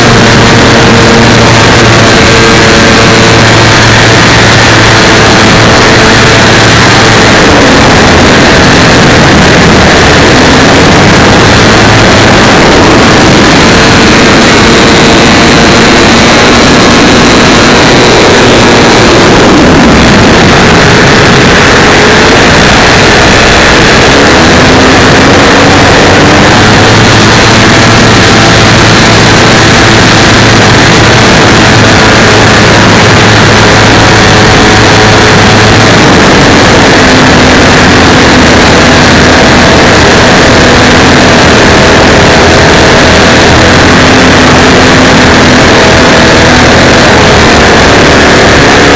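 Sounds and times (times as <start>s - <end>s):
model airplane engine: 0.0s - 48.9s.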